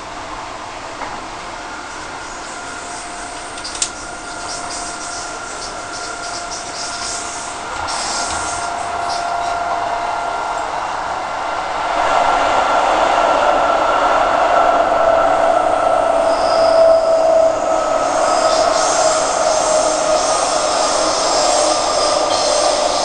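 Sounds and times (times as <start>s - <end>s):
electric train whine: 0.0s - 23.0s
train rumbling: 0.0s - 23.0s.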